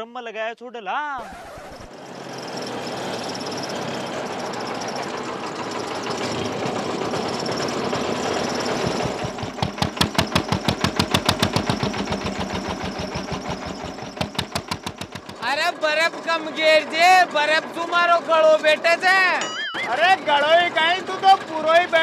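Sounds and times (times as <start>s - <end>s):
engine chugging: 1.3s - 22.0s.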